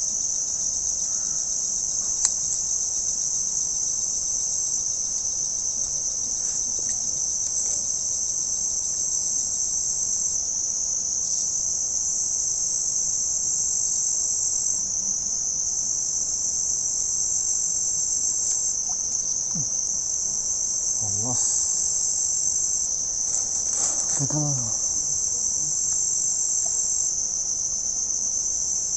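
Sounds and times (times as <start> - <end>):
insects shrilling: 0.0 - 28.9.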